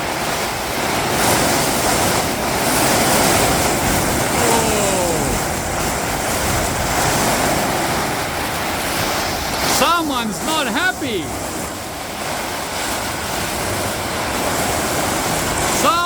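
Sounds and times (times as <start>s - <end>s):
gale-force wind roaring: 0.0s - 16.0s.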